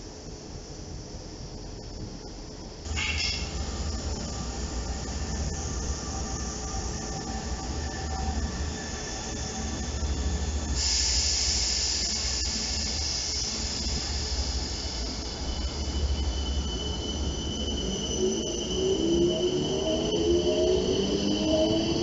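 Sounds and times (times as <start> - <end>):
high-pitched hiss: 0.0 - 18.8
train low rumble: 0.0 - 22.0
rising whine: 2.9 - 22.0
thin steady whistle: 3.0 - 22.0.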